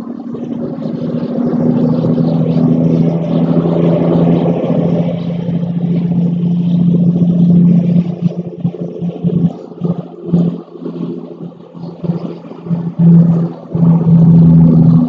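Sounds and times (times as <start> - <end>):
motor engine humming: 0.0 - 15.0.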